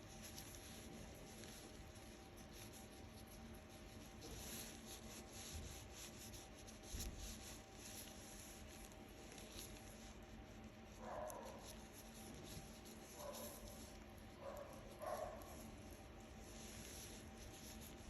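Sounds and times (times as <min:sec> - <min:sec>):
scratching at an ear: 0:00.0 - 0:18.0.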